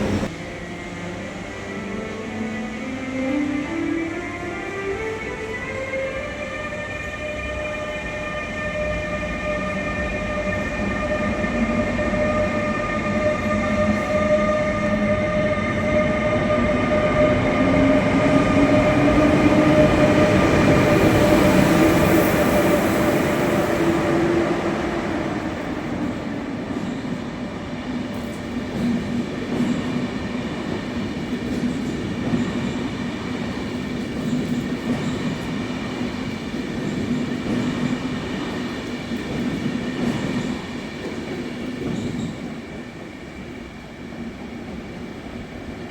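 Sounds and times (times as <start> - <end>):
train wheels rumbling: 0.0 - 45.6
electric train whine: 0.0 - 45.9.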